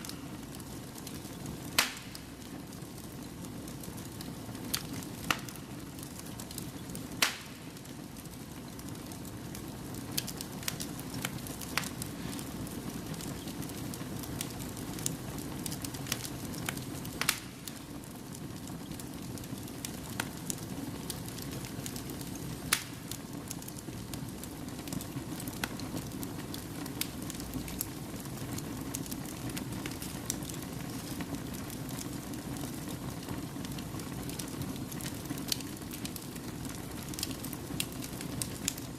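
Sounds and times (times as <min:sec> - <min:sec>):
fire popping: 0:00.0 - 0:38.9
fire rushing and crackling: 0:00.0 - 0:38.9.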